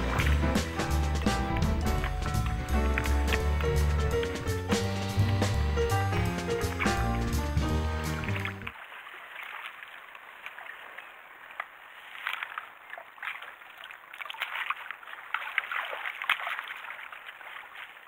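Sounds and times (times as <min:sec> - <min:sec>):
seawater sloshing and splashing: 0:00.0 - 0:18.0.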